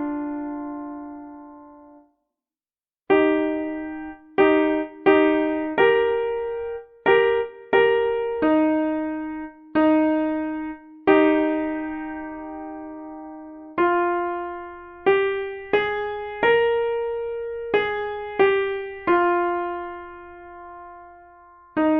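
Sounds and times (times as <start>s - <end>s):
piano chords: 0.0s - 2.1s, 3.1s - 21.9s.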